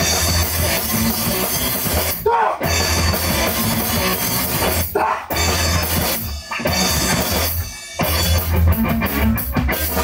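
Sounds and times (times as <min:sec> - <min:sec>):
bass guitar: 0:00.0 - 0:10.0
distorted electric guitar: 0:00.0 - 0:10.0
drum kit: 0:00.0 - 0:10.0.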